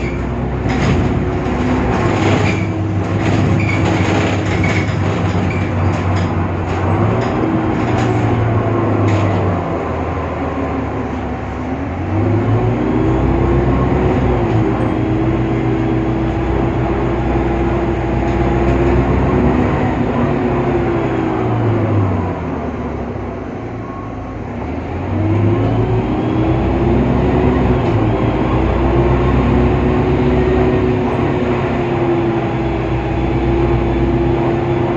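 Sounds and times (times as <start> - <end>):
bus engine whining: 0.0 - 34.9.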